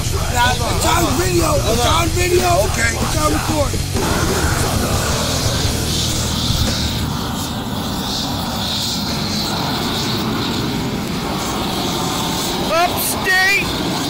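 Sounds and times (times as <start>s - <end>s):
propane torch burning: 0.0s - 14.0s.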